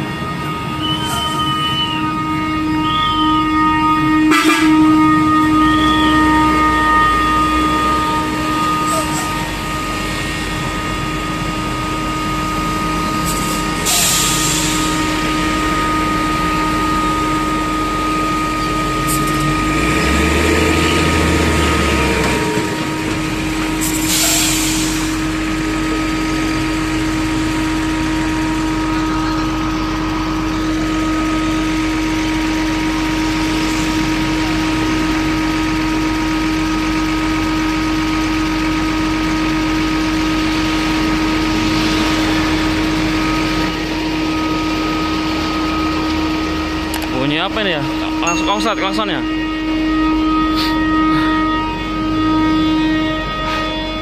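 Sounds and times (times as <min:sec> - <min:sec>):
bus engine idling: 0:00.0 - 0:54.0
bus horn continuous tone: 0:00.0 - 0:54.0.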